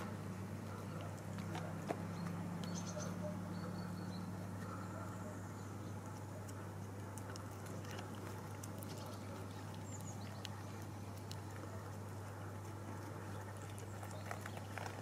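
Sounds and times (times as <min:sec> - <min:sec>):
cat chewing dry kibble: 0:00.0 - 0:15.0
steady low hum: 0:00.0 - 0:15.0.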